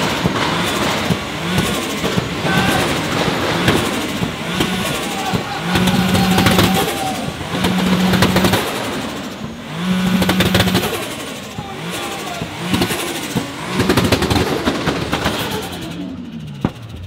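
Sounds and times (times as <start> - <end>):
car engine revving: 0.0 - 17.0
exhaust pops and crackles: 0.0 - 17.0.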